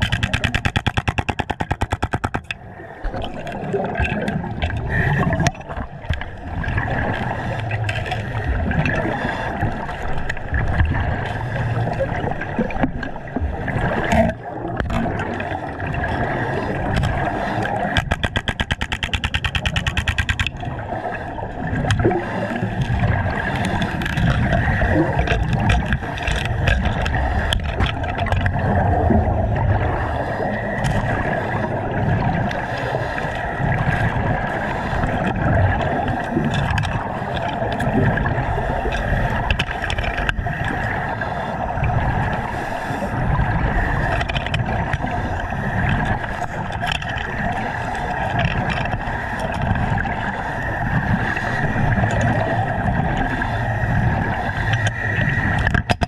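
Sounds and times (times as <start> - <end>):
underwater air bubbles: 0.0 - 56.0.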